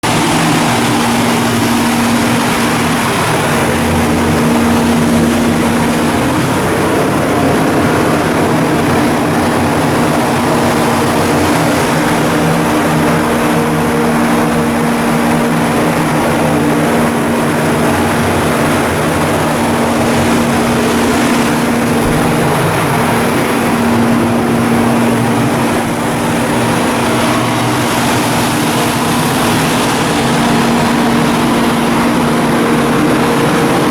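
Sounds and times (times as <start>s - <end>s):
large engine droning: 0.0s - 33.9s.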